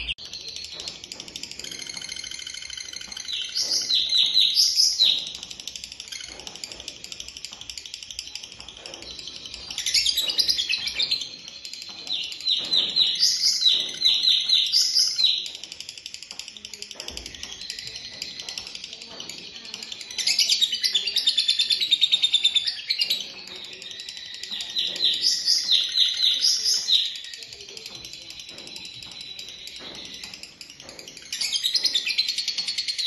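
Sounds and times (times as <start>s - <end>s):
songbird fast high chattering: 0.0s - 33.0s.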